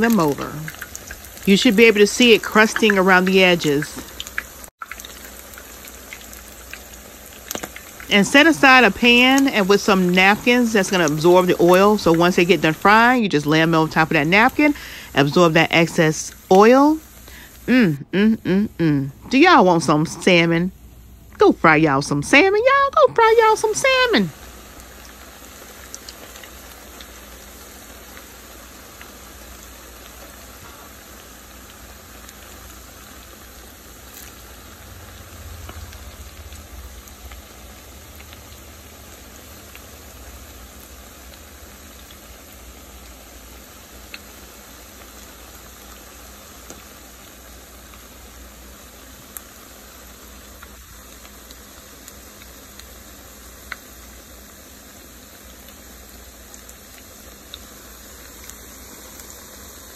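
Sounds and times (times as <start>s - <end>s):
patties sizzling in oil: 0.0s - 59.9s.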